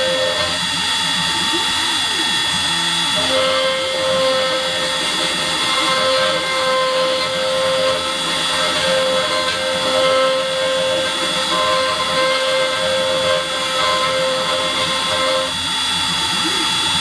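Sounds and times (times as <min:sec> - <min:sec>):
end mill cutting metal: 0:00.0 - 0:17.0
spindle whining: 0:00.0 - 0:17.0.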